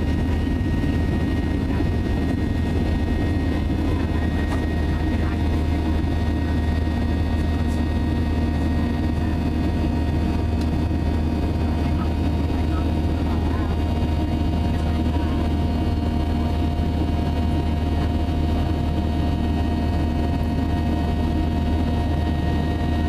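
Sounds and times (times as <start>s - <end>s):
jet engine drone in cabin: 0.0s - 23.0s
steady whining tones: 0.0s - 23.0s.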